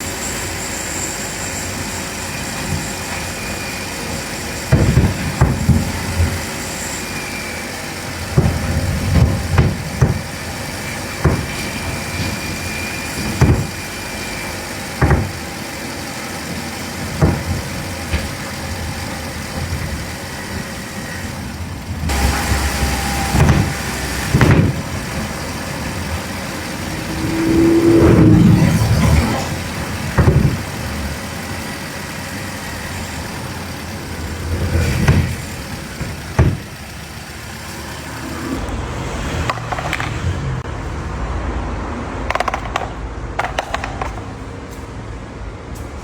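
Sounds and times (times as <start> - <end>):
car suspension clunking: 0.0 - 38.8, 39.4 - 40.6, 42.3 - 45.0
car engine and road noise: 0.0 - 46.0.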